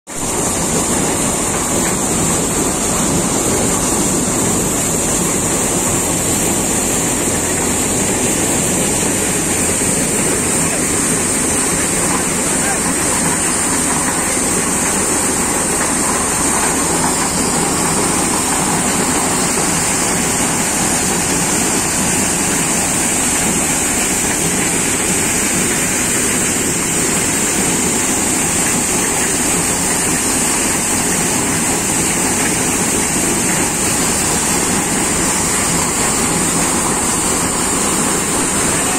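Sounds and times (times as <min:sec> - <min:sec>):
maize thresher running: 0:00.1 - 0:38.9.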